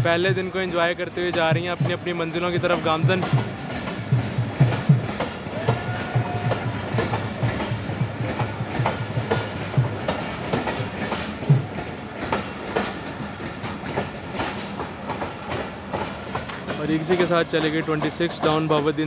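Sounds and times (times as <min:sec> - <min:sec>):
train wheels clattering over rail joints: 0:00.0 - 0:19.0.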